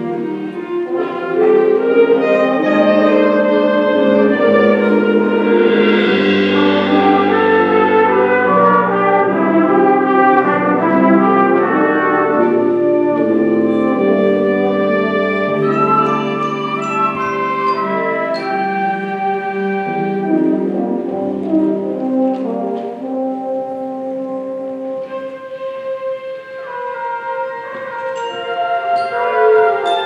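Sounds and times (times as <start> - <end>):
brass: 0.0 - 30.0
concert band playing chords: 0.0 - 30.0.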